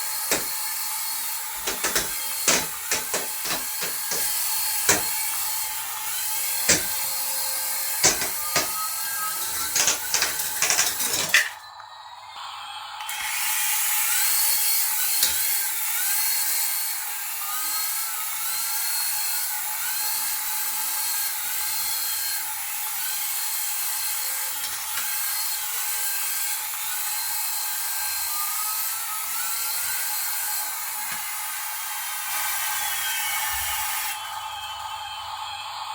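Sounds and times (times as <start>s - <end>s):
small electric motor whining: 0.0s - 35.9s.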